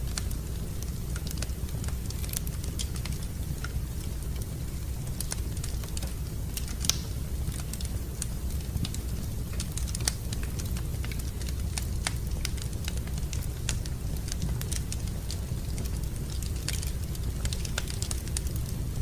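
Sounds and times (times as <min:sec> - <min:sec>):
fire crackling in a fireplace: 0:00.0 - 0:19.0.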